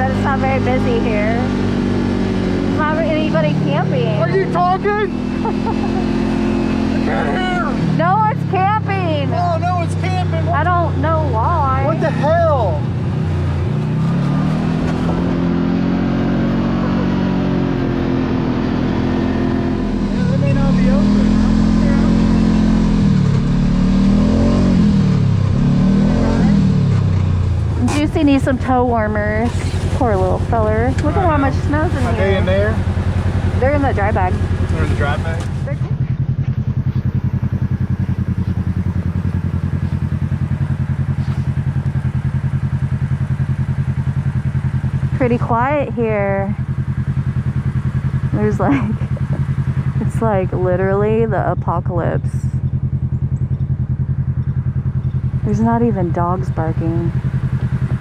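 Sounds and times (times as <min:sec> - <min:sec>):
vehicle engine accelerating: 0:00.0 - 0:58.0.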